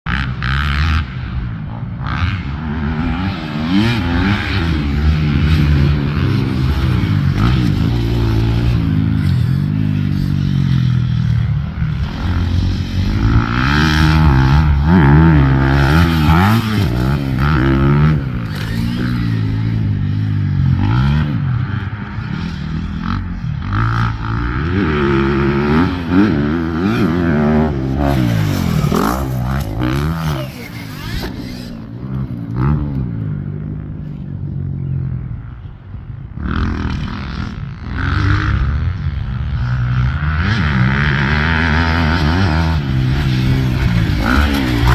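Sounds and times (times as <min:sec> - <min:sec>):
motorcycle engine revving: 0:00.1 - 0:44.9.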